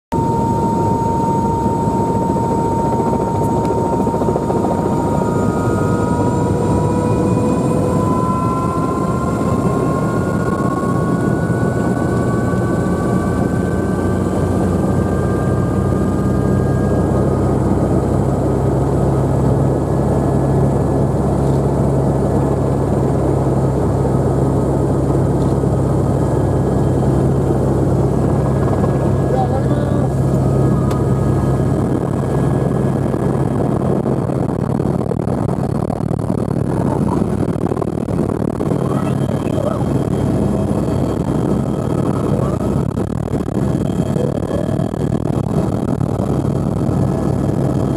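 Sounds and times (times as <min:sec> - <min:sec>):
helicopter engine whine: 0:00.1 - 0:47.9
helicopter rotor hum: 0:00.1 - 0:47.9.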